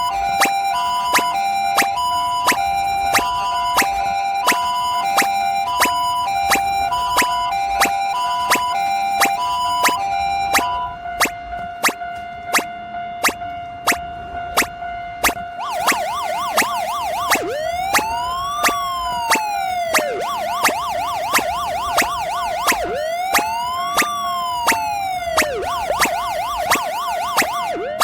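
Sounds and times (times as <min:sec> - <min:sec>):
level crossing alarm bell: 0:00.0 - 0:28.0
siren warbling: 0:00.0 - 0:28.0.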